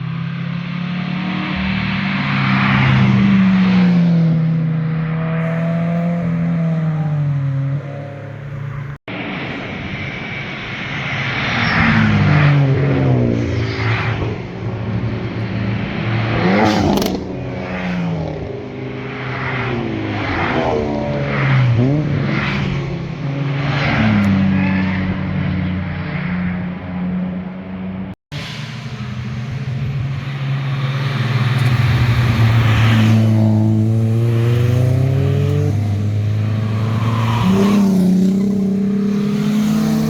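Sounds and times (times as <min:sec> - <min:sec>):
cars accelerating past: 0:00.0 - 0:40.0.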